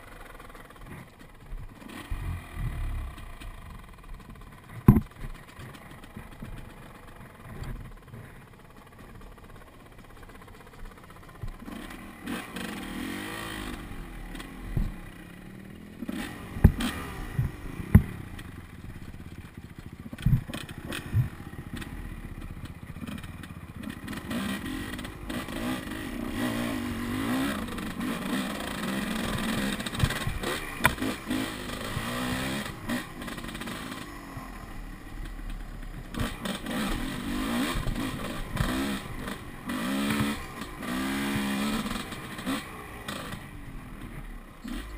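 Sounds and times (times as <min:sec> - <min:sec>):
dirt bike engine revving: 0:00.0 - 0:08.4, 0:09.0 - 0:44.9
sharp knocks and clatter: 0:00.6 - 0:12.0, 0:16.0 - 0:25.8, 0:27.5 - 0:34.1, 0:35.2 - 0:43.5.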